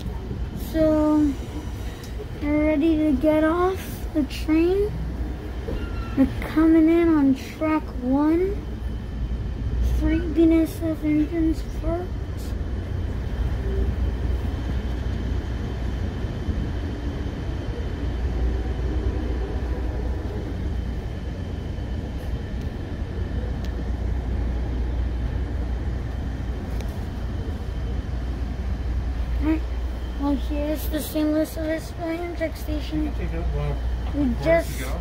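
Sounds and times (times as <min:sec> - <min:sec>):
faint high whine: 0:00.0 - 0:35.0
train car rolling rumble: 0:00.0 - 0:35.0.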